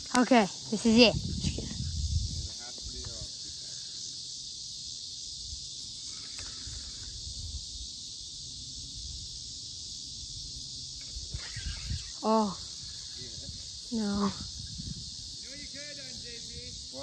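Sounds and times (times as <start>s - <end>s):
insect chorus hissing: 0.0s - 17.0s.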